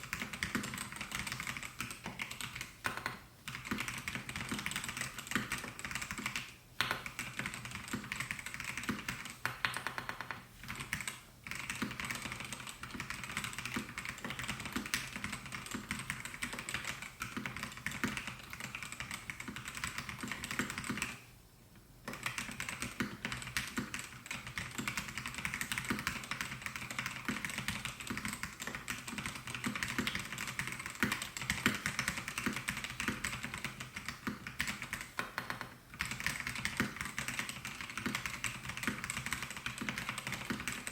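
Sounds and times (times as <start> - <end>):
fast mechanical keyboard typing: 0.0 - 21.2, 22.1 - 40.9.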